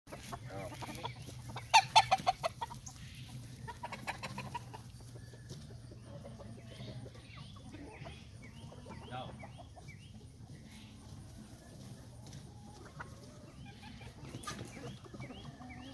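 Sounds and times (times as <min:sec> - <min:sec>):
chickens clucking: 0:00.1 - 0:15.9.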